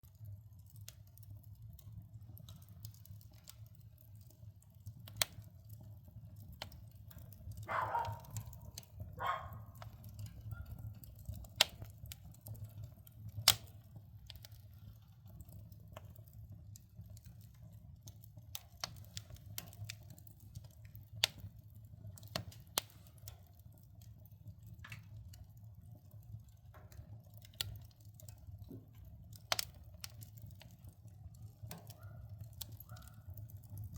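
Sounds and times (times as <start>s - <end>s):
firewood crackling in stove: 0.0s - 33.9s.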